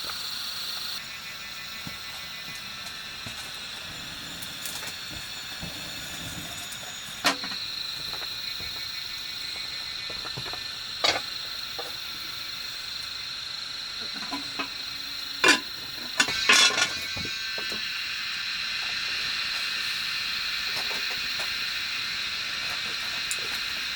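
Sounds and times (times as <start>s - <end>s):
high-pitched insect drone: 0.0s - 23.9s.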